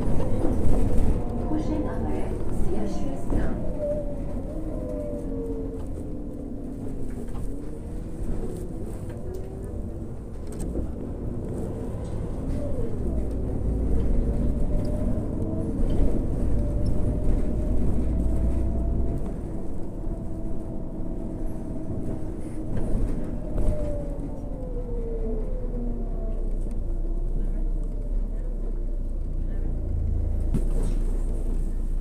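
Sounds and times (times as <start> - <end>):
bus drivetrain whining: 0.0 - 32.0
deep engine rumble: 0.0 - 32.0.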